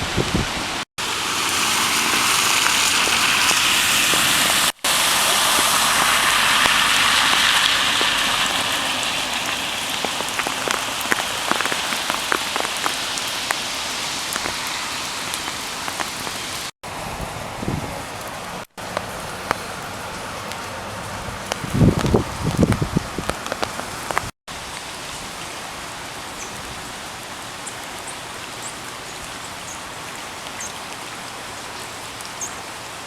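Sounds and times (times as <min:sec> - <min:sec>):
heavy rain hissing: 0:00.0 - 0:30.1
raindrops ticking on surface: 0:01.0 - 0:32.9.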